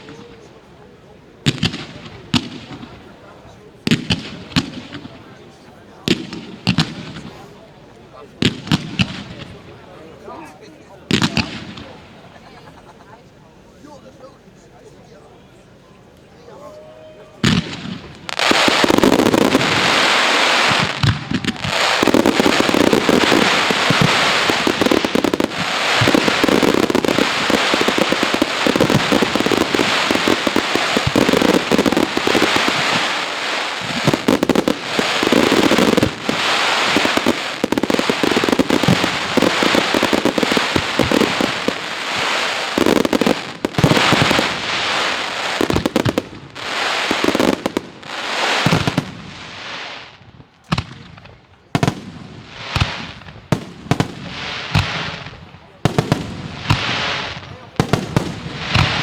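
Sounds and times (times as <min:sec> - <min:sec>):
fireworks bangs and crackling: 0:00.0 - 0:13.0, 0:17.2 - 0:59.0.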